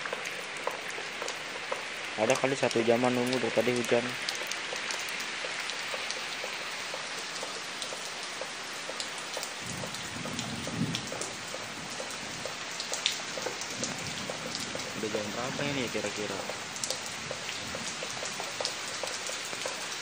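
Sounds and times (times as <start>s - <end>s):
drops ticking: 0.0s - 20.0s
rain on paving and leaves: 0.0s - 20.0s.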